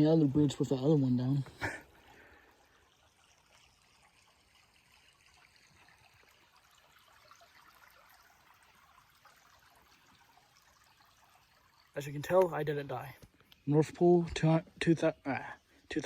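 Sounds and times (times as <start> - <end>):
creek trickling: 0.0 - 16.0.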